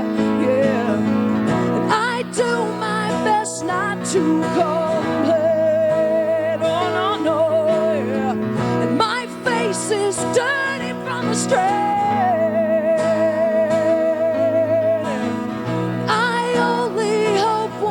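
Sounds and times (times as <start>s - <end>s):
acoustic accompaniment: 0.0s - 17.9s
woman singing: 1.8s - 15.3s, 16.0s - 17.9s.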